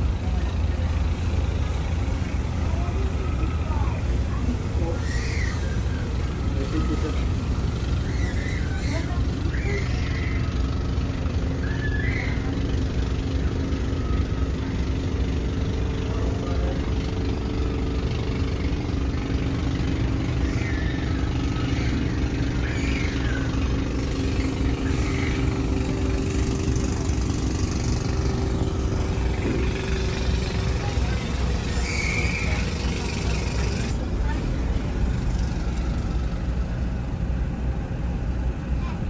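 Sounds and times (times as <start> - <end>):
engine running: 0.0 - 39.0
faint voices: 0.0 - 39.0.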